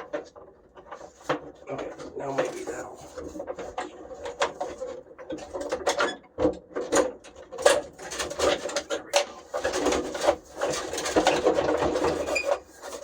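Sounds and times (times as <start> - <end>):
plastic parts knocking and scraping: 0.0 - 13.0.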